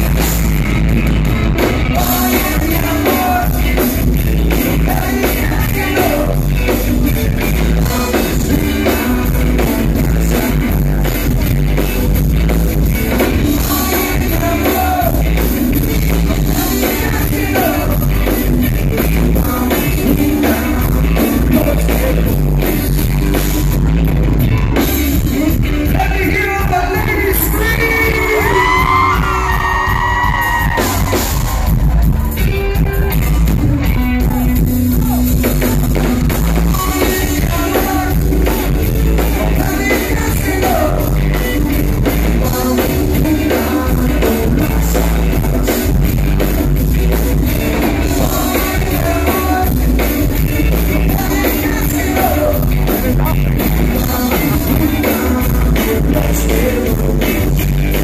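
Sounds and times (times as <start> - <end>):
booming bass: 0.0 - 58.0
live rock band playing: 0.0 - 58.0
male singer: 1.9 - 11.9, 13.1 - 23.9, 24.5 - 30.8, 36.2 - 46.6, 47.4 - 58.0.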